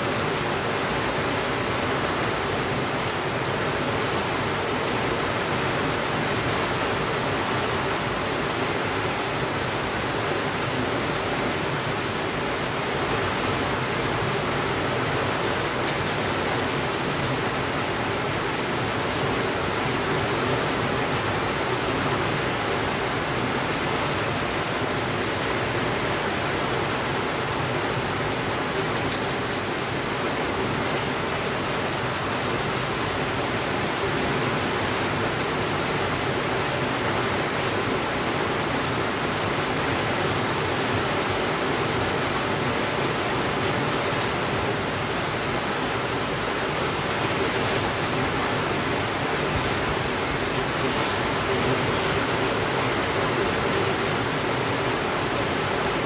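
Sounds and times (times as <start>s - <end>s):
steady rainfall hiss: 0.0s - 56.0s.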